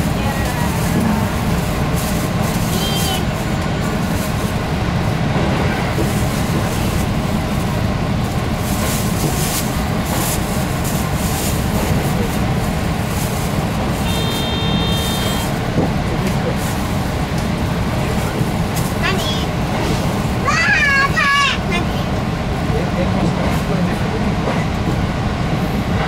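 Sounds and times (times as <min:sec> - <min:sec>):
train engine and wheels rumbling: 0:00.0 - 0:26.0.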